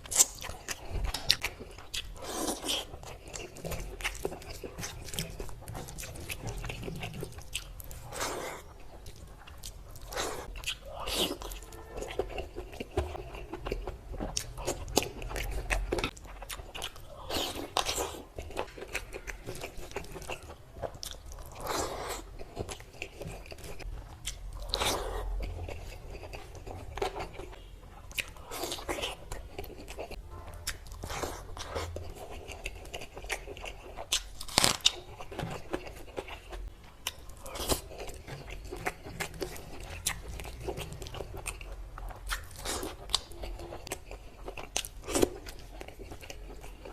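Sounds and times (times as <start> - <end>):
chewing crunchy food: 0.0 - 46.9.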